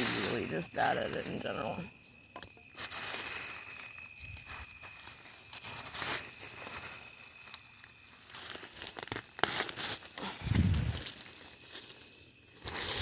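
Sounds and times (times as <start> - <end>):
crickets chirping: 0.0 - 13.0
high insect trill: 0.0 - 13.0
rustling: 0.0 - 13.0.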